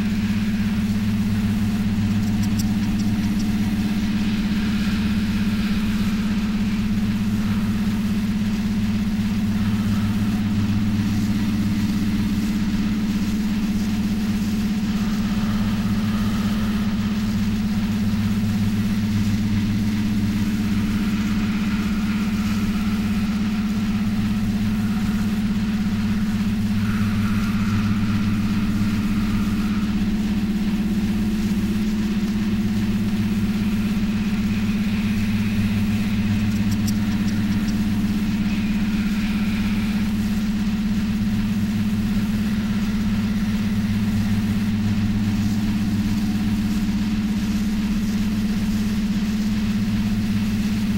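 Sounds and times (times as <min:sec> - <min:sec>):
faint higher tones: 0:00.0 - 0:46.8
low electronic drone: 0:00.0 - 0:50.9.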